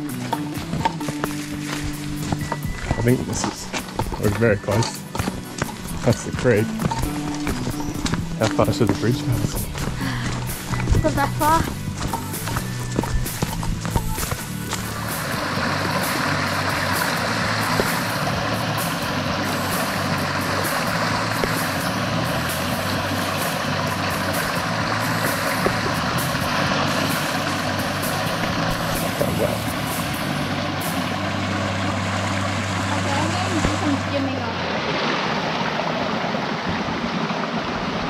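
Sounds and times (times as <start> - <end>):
background music with low notes: 0.0 - 34.4
creek water running over rocks: 0.0 - 38.0.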